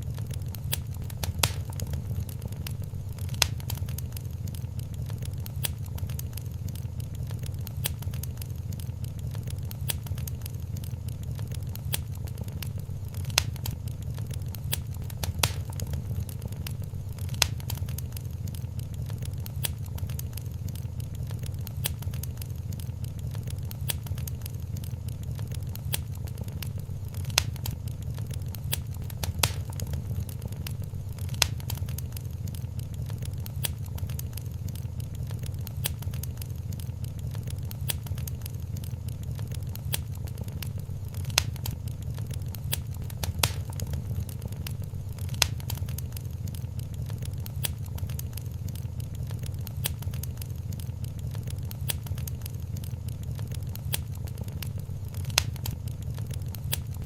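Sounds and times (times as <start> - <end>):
fire popping: 0.0 - 57.0
fire rumbling and crackling: 0.0 - 57.0.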